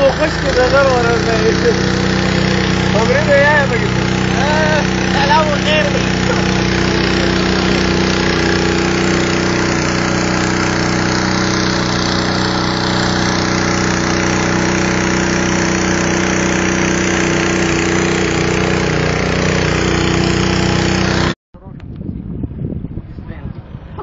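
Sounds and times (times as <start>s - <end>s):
boat engine running: 0.0s - 21.4s.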